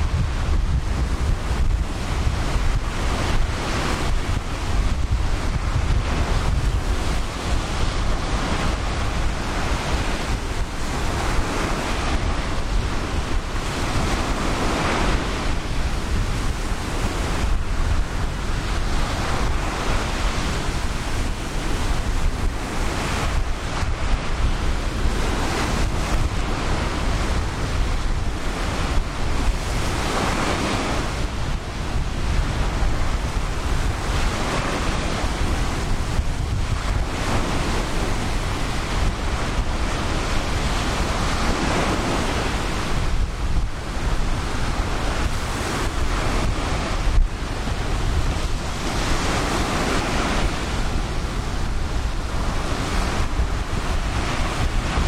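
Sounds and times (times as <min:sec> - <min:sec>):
ocean waves breaking: 0:00.0 - 0:55.0
wind on microphone: 0:00.0 - 0:55.0.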